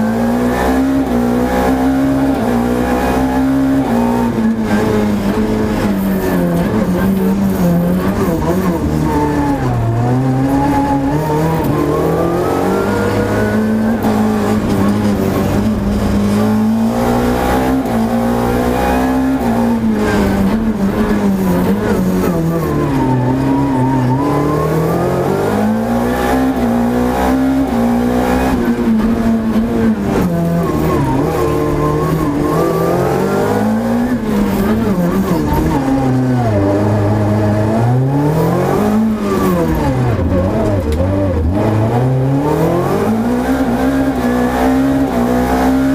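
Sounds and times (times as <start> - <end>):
rally car engine at full effort: 0.0 - 45.9.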